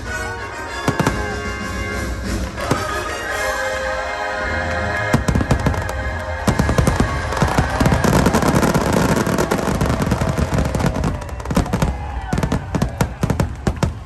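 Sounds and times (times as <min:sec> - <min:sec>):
fireworks bursting: 0:00.0 - 0:04.0, 0:04.6 - 0:14.0
music: 0:00.0 - 0:14.0.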